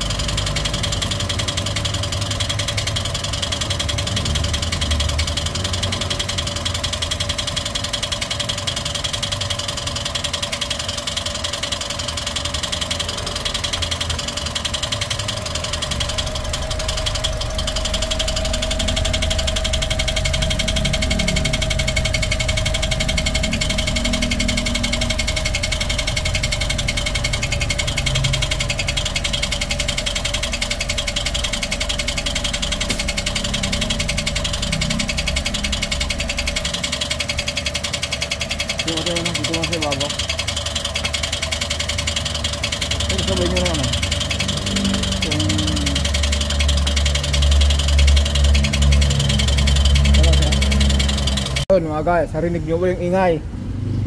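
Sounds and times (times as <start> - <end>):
engine running with mechanical noise: 0.0 - 54.0.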